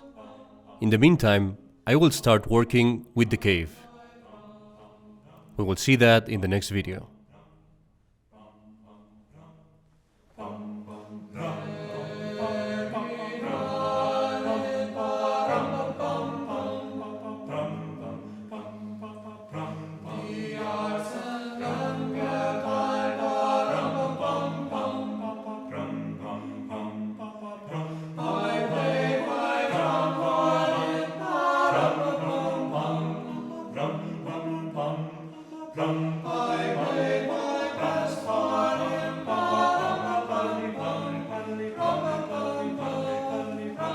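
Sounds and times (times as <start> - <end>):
choir singing sustained chords: 0.0 - 1.1, 3.8 - 5.7, 7.2 - 43.9.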